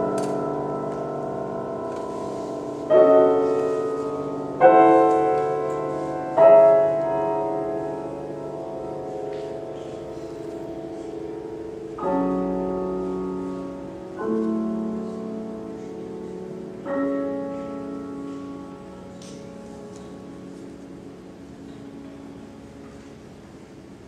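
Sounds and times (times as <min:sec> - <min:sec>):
grand piano slow chords: 0:00.0 - 0:24.0.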